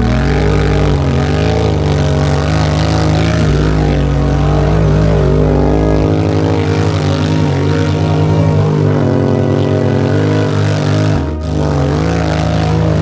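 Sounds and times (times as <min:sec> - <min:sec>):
small engine revving: 0:00.0 - 0:13.0.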